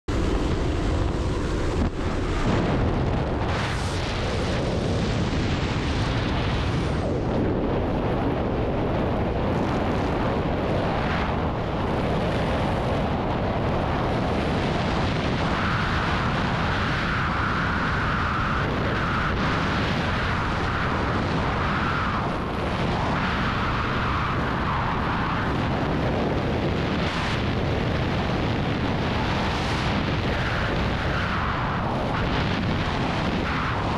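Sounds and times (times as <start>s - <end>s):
loud wind rush on microphone: 0.1s - 33.9s.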